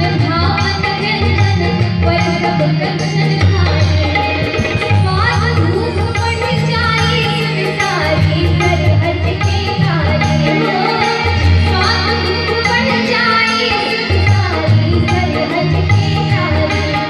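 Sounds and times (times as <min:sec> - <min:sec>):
steady percussion beat: 0:00.0 - 0:16.9
instrumental accompaniment: 0:00.0 - 0:17.0
woman singing through a pa: 0:00.0 - 0:17.0.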